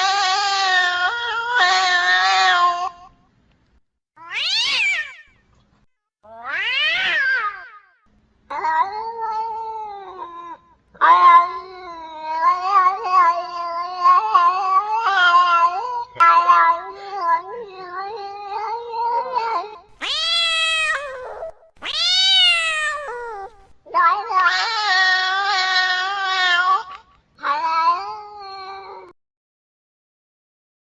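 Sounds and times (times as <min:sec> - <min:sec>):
cat yowling: 0:00.0 - 0:03.1, 0:04.2 - 0:05.3, 0:06.2 - 0:29.2.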